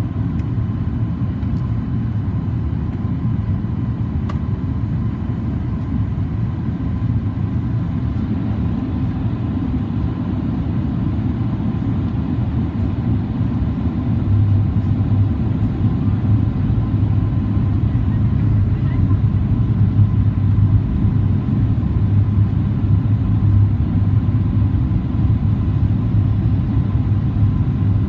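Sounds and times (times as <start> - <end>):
airliner cabin rumble: 0.0 - 28.0.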